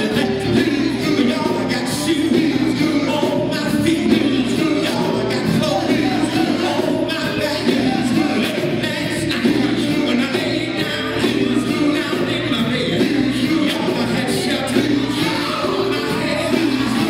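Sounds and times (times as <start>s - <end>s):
bass guitar: 0.0s - 17.0s
male vocal group singing: 0.0s - 17.0s.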